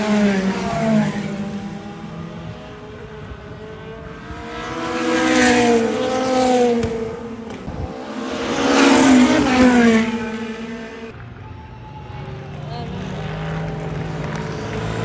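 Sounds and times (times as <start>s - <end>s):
race cars passing by: 0.0s - 15.0s.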